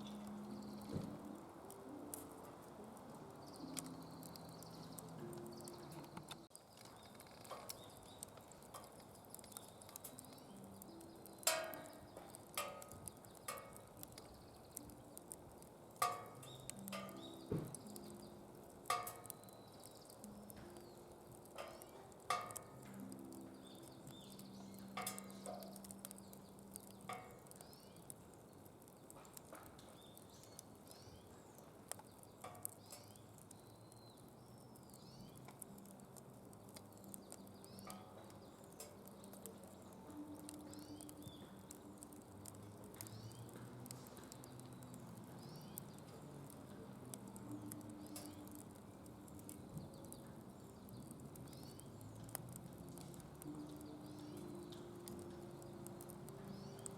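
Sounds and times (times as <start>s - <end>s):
fire hissing: 0.0s - 56.9s
wood fire crackling and popping: 0.0s - 56.9s.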